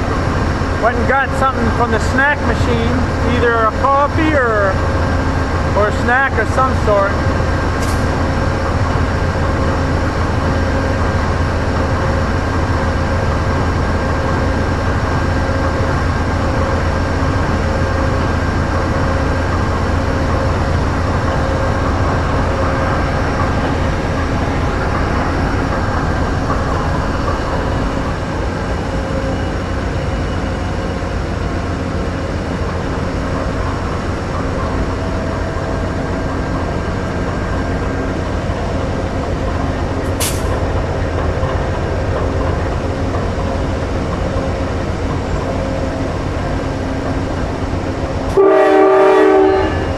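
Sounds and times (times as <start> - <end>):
diesel locomotive idling hum: 0.0 - 49.9
steady whining tones: 0.0 - 49.9.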